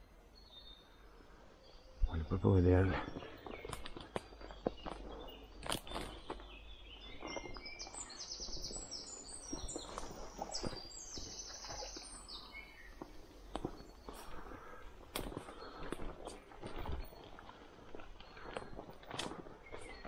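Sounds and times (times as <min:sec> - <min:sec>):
birds singing: 0:00.0 - 0:20.0
footsteps through leafy undergrowth: 0:03.0 - 0:20.0.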